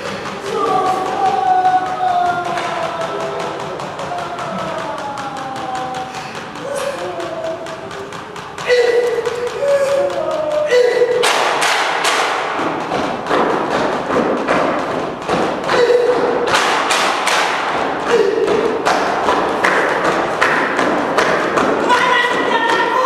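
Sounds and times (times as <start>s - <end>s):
thumps and knocks on stage: 0.0s - 23.0s.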